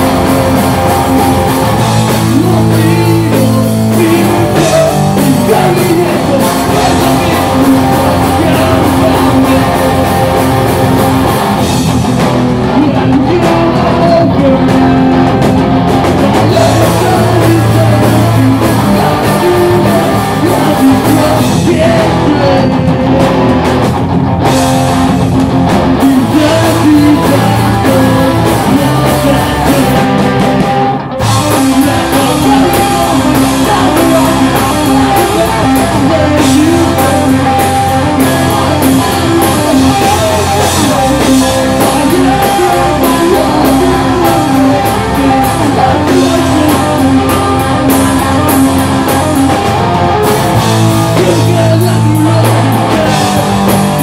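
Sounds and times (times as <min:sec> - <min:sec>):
pop-punk band playing: 0:00.0 - 0:54.0
sung lead vocal: 0:00.0 - 0:54.0.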